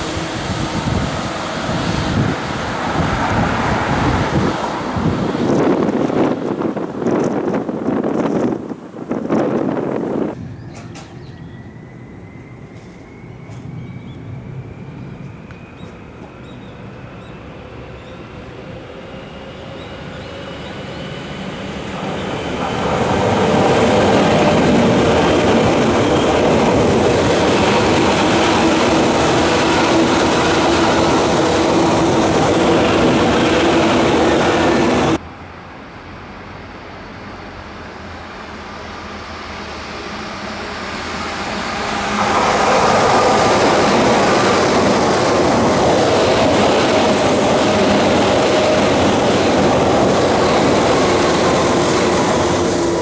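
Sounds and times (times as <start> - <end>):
electric train running: 0.0 - 35.2, 36.0 - 53.0.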